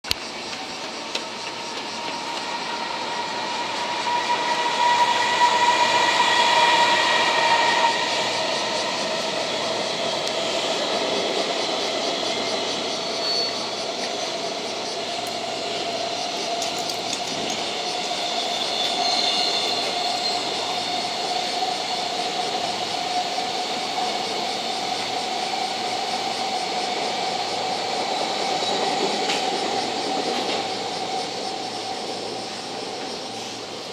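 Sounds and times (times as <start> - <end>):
freight train wheels rumbling: 0.1 - 33.9
held whine: 0.1 - 33.9.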